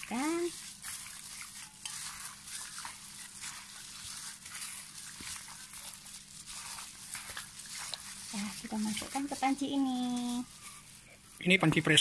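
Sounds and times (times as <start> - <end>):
wet squishing and crinkling: 0.0 - 12.0.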